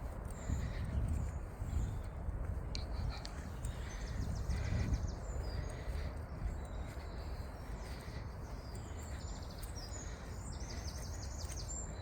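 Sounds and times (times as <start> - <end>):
songbirds trilling: 0.2 - 12.0.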